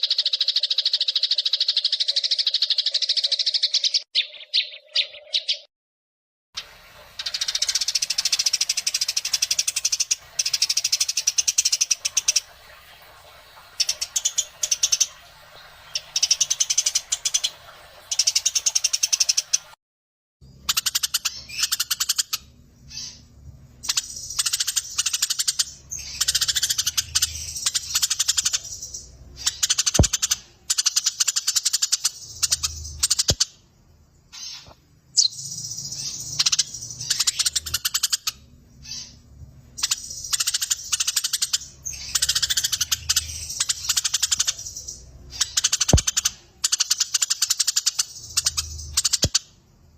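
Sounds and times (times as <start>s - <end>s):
sparrows chirping: 0.0s - 5.7s, 7.2s - 19.7s, 20.4s - 49.9s.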